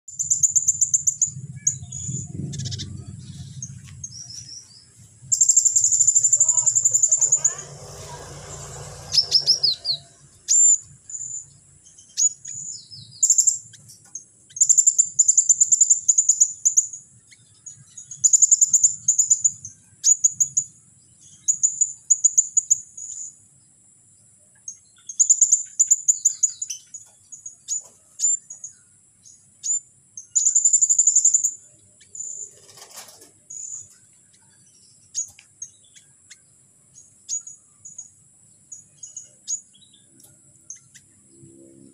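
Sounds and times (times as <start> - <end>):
songbird trilling: 0.1 - 23.4, 24.7 - 41.5.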